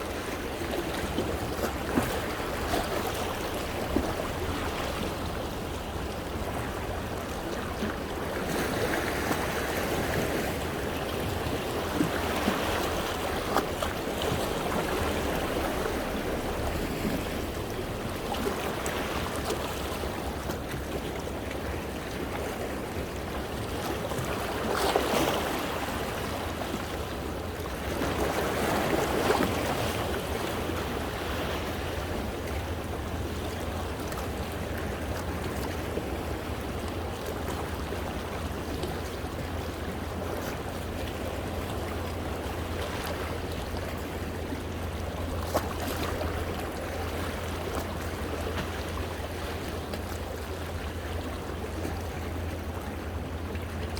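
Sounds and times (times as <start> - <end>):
small waves washing over rocks: 0.0 - 53.9.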